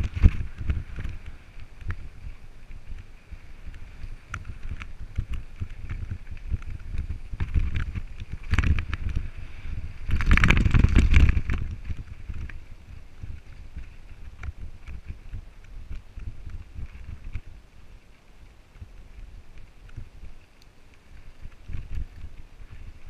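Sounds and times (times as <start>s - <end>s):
bike rattling: 0.0s - 23.0s
wind buffeting microphone: 0.0s - 23.0s.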